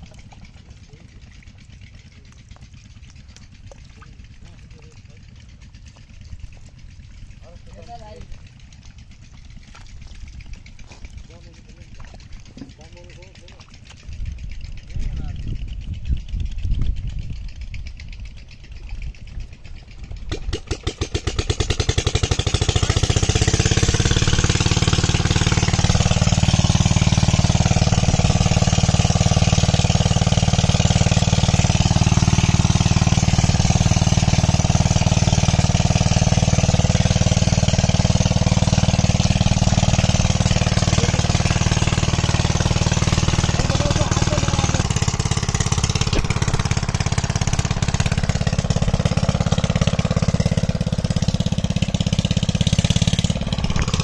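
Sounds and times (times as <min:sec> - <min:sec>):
small engine starting and running: 0:00.0 - 0:54.0.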